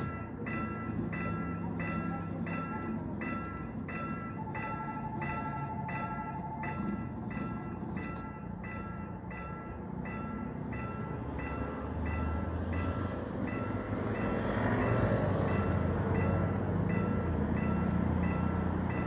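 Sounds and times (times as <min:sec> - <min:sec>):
approaching train rumble: 0:00.0 - 0:19.0
crossing warning bell dinging: 0:00.0 - 0:19.0.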